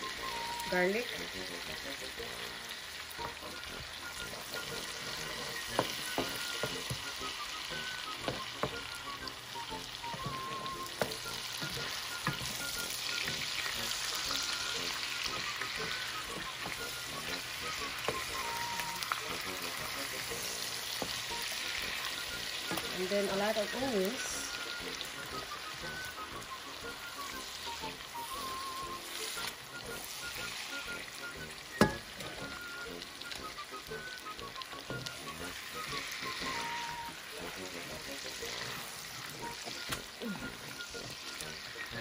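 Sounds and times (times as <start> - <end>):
fish frying in a pan: 0.0 - 42.0.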